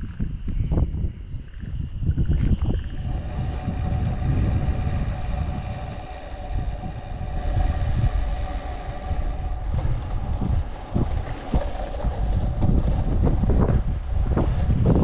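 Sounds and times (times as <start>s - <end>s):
wind buffeting microphone: 0.0s - 15.0s
bicycle road noise: 1.9s - 15.0s
steady hum: 2.5s - 15.0s.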